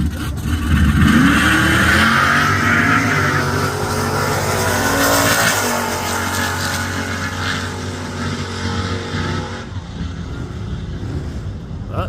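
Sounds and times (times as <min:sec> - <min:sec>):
drag racing car engines: 0:00.0 - 0:12.0.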